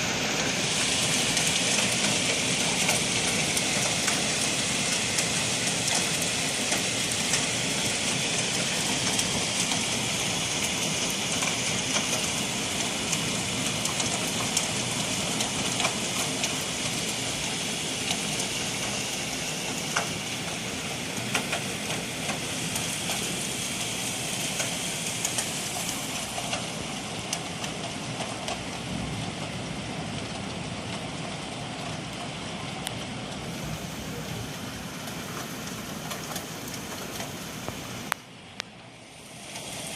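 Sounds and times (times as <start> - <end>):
hail hissing: 0.0 - 29.6, 33.2 - 38.2, 39.0 - 39.9
hailstones clicking: 0.4 - 38.2.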